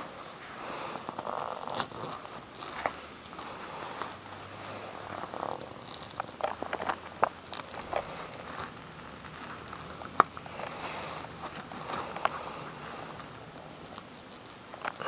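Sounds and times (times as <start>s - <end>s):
fruit peel rustling and crackling: 0.0s - 15.0s.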